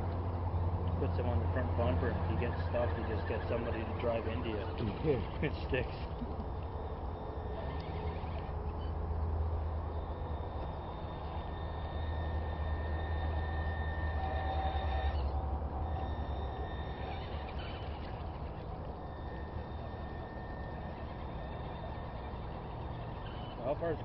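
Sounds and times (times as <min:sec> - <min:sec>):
toy truck motor whining: 0:01.0 - 0:24.0.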